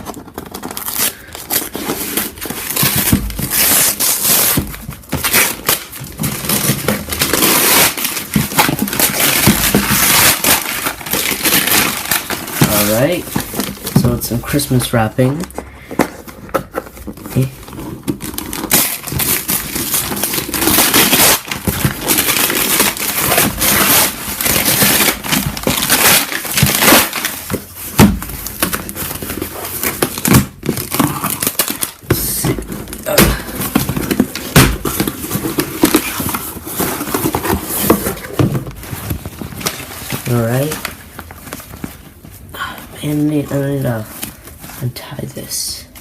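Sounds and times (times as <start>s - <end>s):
wrapping paper tearing and crumpling: 0.0s - 46.0s.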